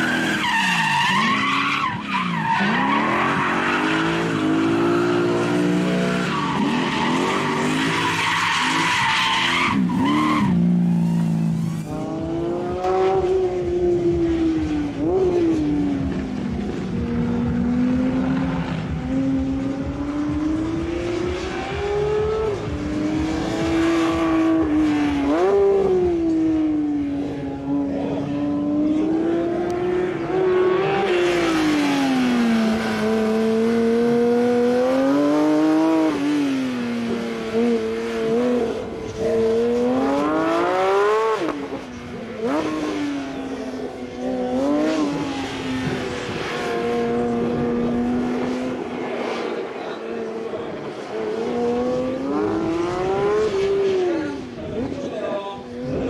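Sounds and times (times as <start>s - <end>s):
sports car engine driven hard: 0.0s - 56.0s.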